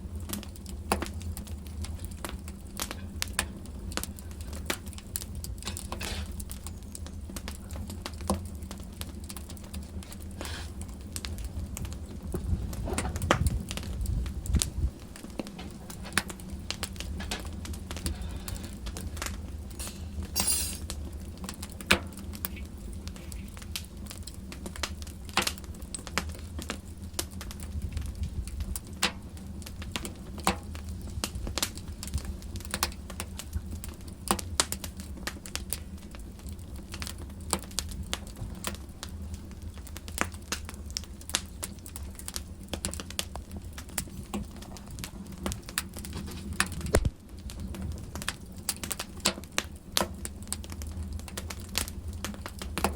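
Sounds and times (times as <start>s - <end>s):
low steady rumble: 0.0s - 48.8s
wood fire crackling: 0.0s - 52.9s.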